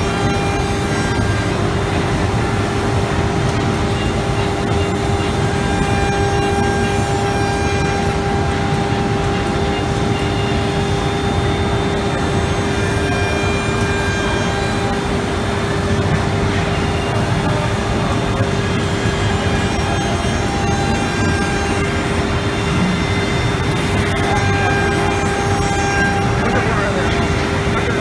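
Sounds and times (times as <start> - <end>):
router spindle whining: 0.0 - 28.0.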